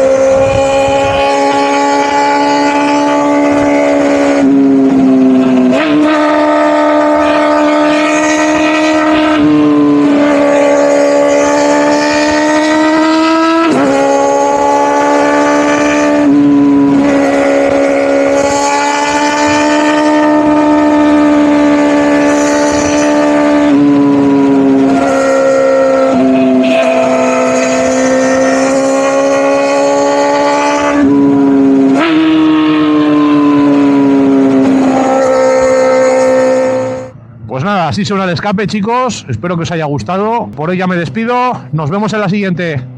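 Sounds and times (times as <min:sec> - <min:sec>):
motorcycle engine at high revs: 0:00.0 - 0:37.1.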